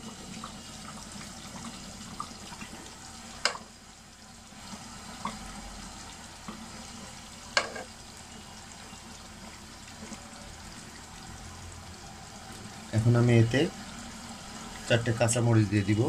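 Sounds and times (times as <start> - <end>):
thick pot simmering: 0.0 - 16.0.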